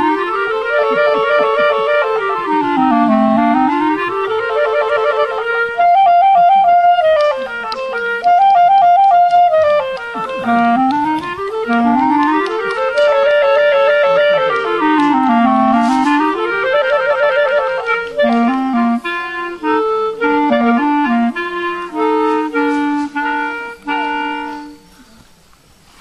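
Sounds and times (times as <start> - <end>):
woodwind duet: 0.0 - 26.0.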